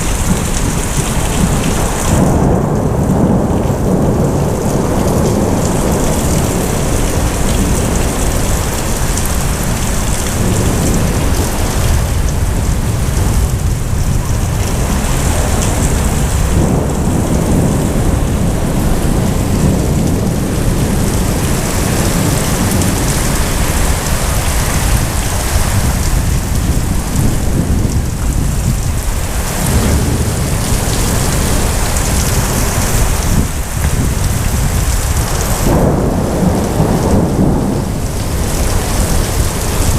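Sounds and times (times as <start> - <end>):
heavy rain pouring: 0.0 - 39.9
low rumble of thunder: 0.0 - 39.9.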